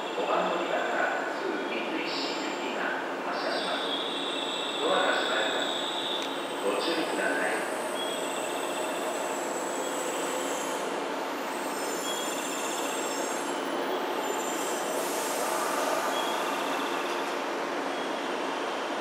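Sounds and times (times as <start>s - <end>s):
electric train noise: 0.0s - 19.0s.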